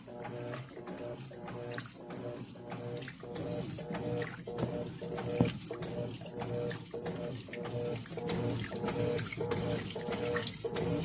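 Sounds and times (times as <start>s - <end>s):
agitator stroking back and forth: 0.0s - 11.0s
washing machine motor hum: 0.0s - 11.0s
water sloshing in tub: 0.0s - 11.0s.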